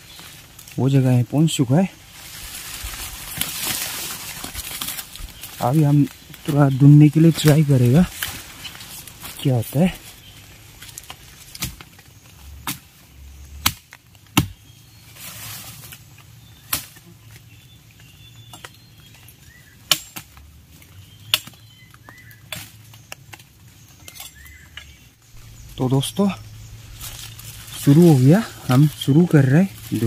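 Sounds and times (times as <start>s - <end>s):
undergrowth rustling: 0.0s - 30.0s
twigs snapping: 2.1s - 14.6s, 15.4s - 30.0s.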